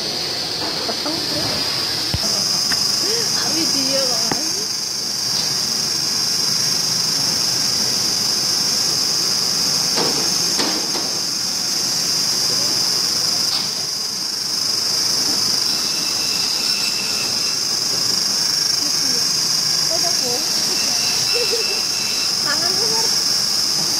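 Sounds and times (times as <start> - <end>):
band saw whining: 0.9 - 23.9.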